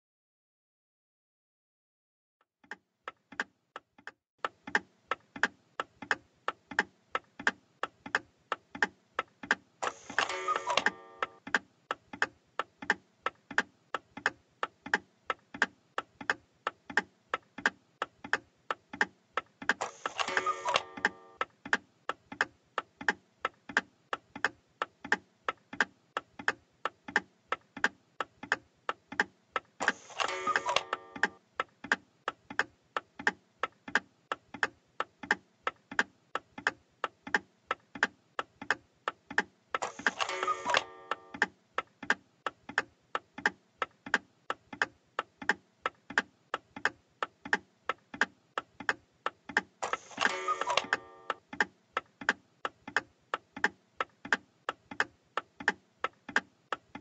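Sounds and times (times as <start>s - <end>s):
clock ticking: 10.6s - 57.0s.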